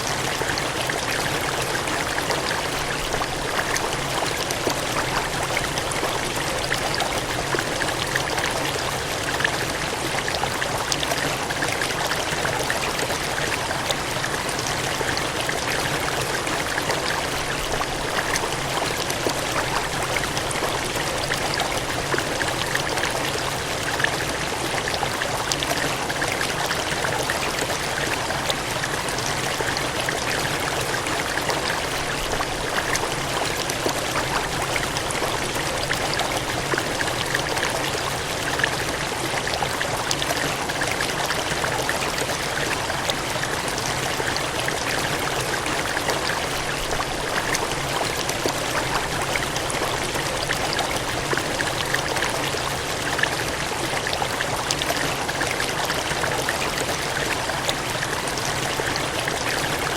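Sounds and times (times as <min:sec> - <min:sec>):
water gushing and splashing: 0:00.0 - 0:59.9.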